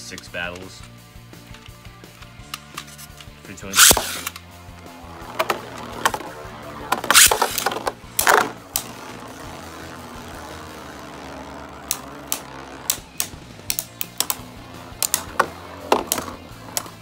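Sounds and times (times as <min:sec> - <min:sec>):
spinning tops clacking together: 0:01.5 - 0:17.0
spinning tops whirring: 0:02.6 - 0:17.0
spinning tops launched with rasping: 0:02.8 - 0:17.0.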